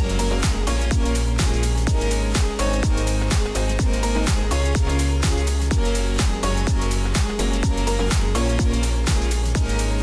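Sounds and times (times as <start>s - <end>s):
kick drum: 0.0s - 10.0s
synth tones and bass: 0.0s - 10.0s.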